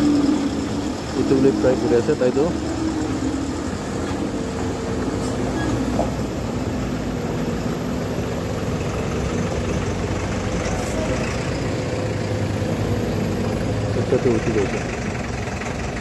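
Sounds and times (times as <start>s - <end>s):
truck diesel engine under load: 0.0s - 16.0s.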